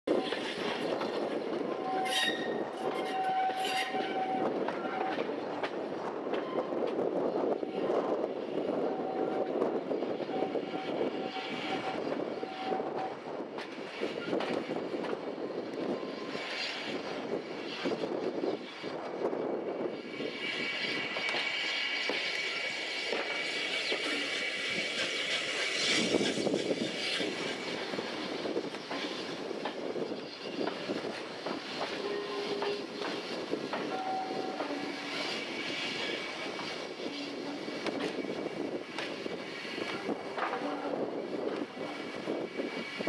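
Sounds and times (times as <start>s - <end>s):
train wheels running on rails: 0.1s - 43.0s.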